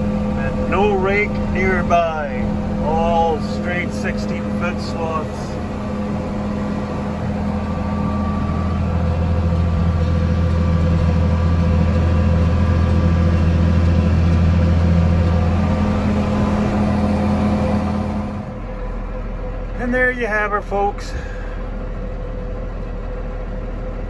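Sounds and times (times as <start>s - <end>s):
tractor engine humming under load: 0.0s - 24.0s.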